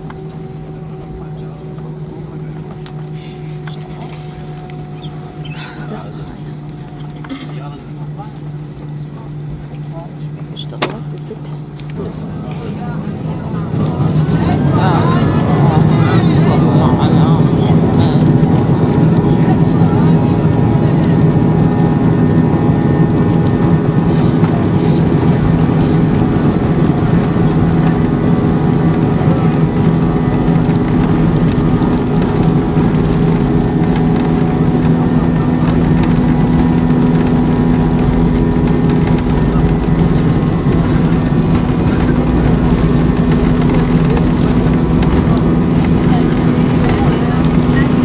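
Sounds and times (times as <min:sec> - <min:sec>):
jet engines droning in cabin: 0:00.0 - 0:48.0.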